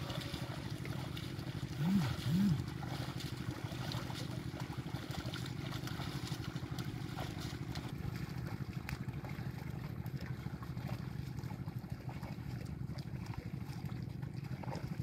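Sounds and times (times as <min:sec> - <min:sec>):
small engine chugging: 0:00.0 - 0:15.0
splashes in muddy water: 0:00.0 - 0:15.0.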